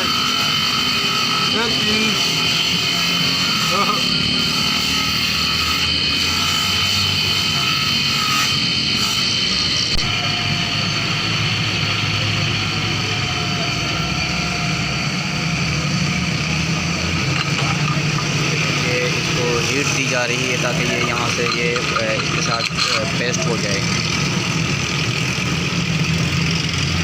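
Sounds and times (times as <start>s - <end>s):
vehicle engine whine: 0.0s - 27.0s.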